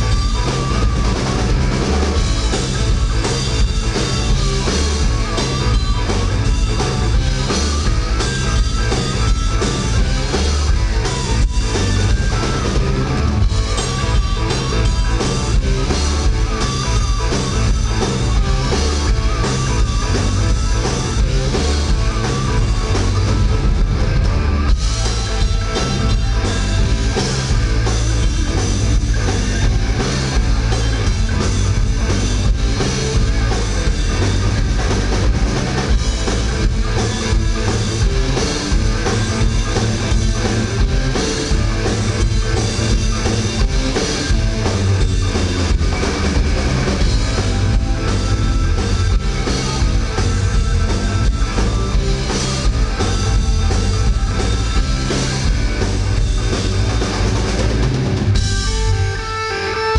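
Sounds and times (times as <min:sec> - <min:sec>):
guitar notes: 0:00.0 - 0:59.9
live rock band playing: 0:00.0 - 0:59.9.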